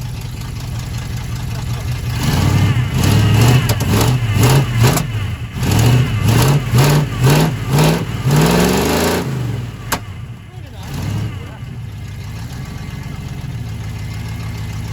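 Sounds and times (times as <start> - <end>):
engine revving in throttle blips: 0.0 - 14.9.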